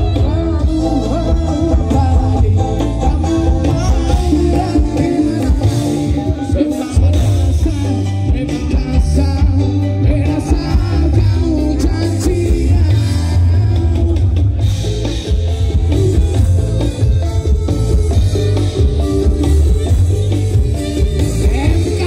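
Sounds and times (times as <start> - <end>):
person singing: 0.0 - 14.8, 18.1 - 22.0
booming bass and drums: 0.0 - 22.0
live band through pa system: 0.0 - 22.0.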